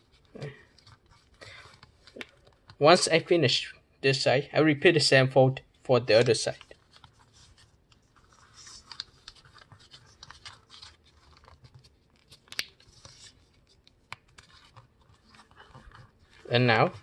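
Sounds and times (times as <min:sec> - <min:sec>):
paper rustling and crinkling: 0:00.0 - 0:03.2, 0:06.1 - 0:17.0.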